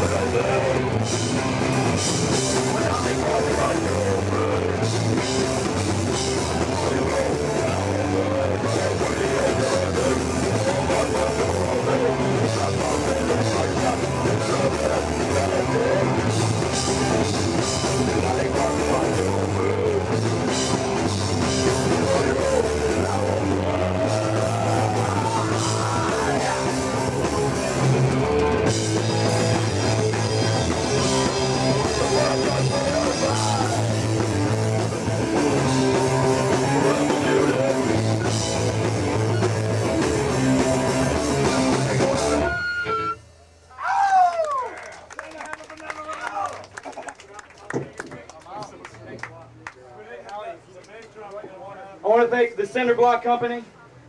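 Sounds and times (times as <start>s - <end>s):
live rock band playing: 0.0s - 43.6s.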